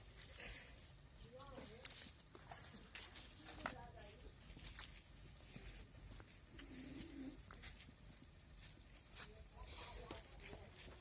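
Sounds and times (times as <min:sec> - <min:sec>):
thin high insect tone: 0:00.0 - 0:11.0.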